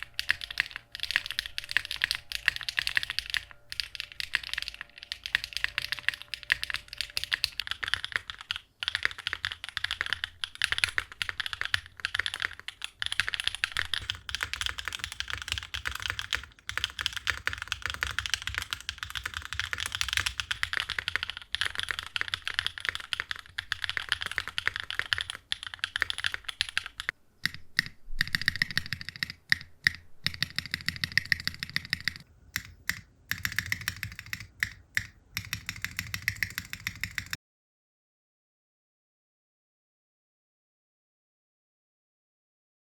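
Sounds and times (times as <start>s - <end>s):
mechanical keyboard typing: 0.0s - 37.4s.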